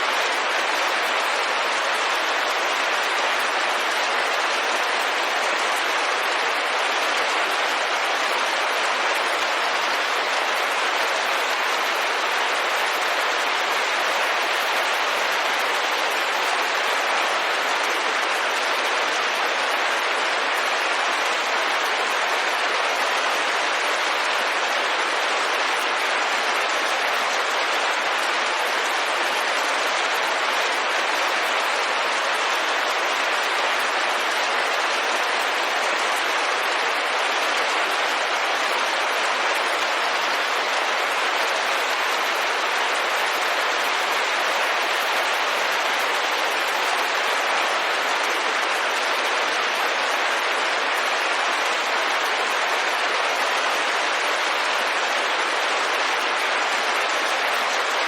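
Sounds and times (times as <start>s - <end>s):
rain on a window pane: 0.0s - 58.0s.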